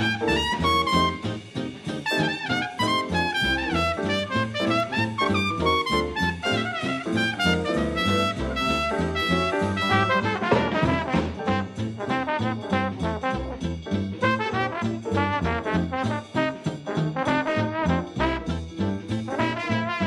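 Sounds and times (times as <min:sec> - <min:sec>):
jazz music with brass: 0:00.0 - 0:20.0.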